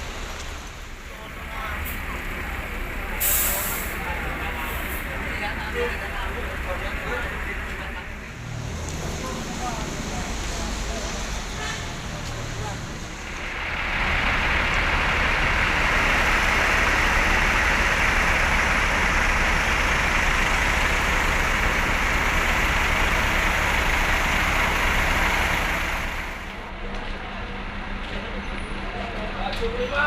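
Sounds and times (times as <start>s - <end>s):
bus engine rumbling: 0.0s - 30.0s.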